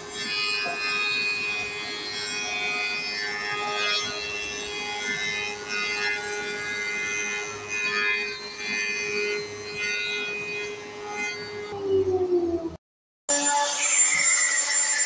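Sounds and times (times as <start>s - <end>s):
cutter cutting wood: 0.0s - 11.8s, 13.3s - 15.0s.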